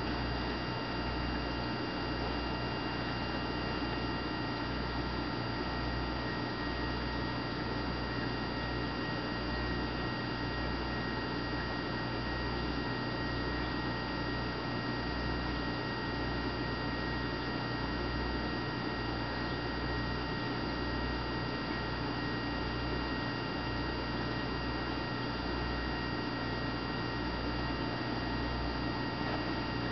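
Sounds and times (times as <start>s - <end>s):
electrical hum: 0.0s - 29.9s.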